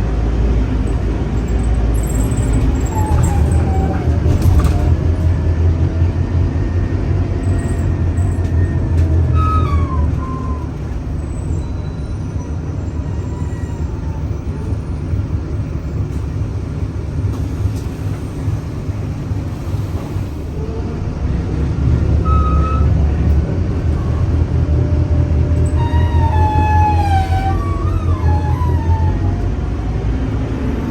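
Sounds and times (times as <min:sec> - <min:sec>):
bus engine drone: 0:00.0 - 0:30.9.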